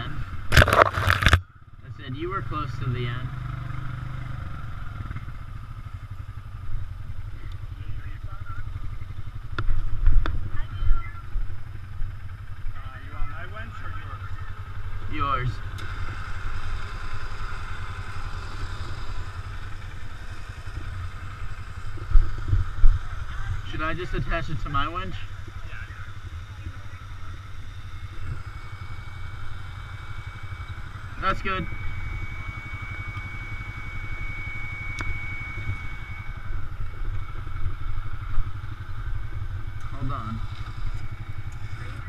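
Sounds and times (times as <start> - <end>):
atv engine idling: 0.0 - 42.0
high-pitched whine: 0.0 - 42.0.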